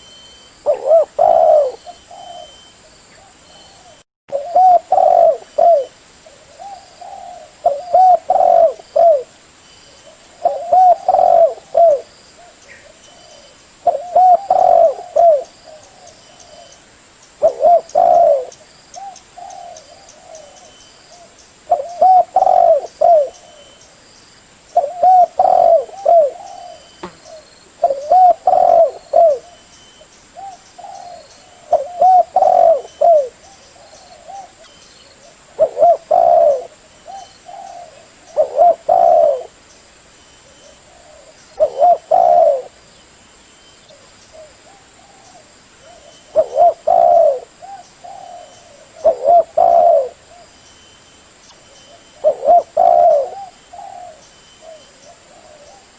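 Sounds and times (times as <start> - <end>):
dove cooing: 0.6 - 9.3, 10.1 - 16.8, 17.4 - 23.8, 24.8 - 29.7, 30.4 - 39.6, 40.4 - 42.8, 43.9 - 50.6, 51.7 - 55.9.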